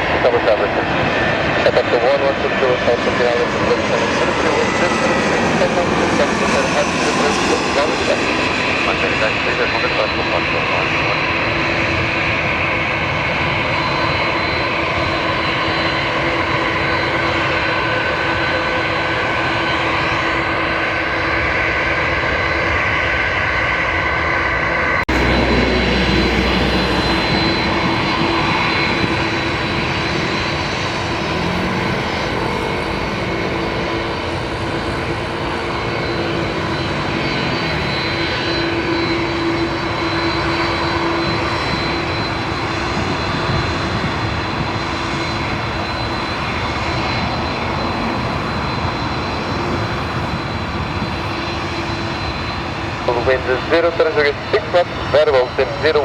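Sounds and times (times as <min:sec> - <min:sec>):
airliner engines whining: 0:00.0 - 0:56.0.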